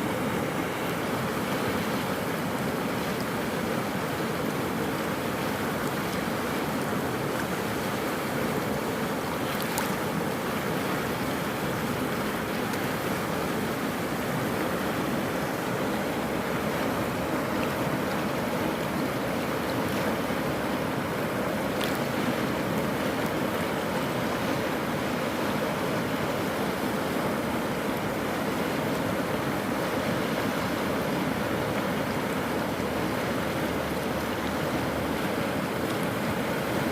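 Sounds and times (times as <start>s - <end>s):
flooded river rushing: 0.0s - 36.9s.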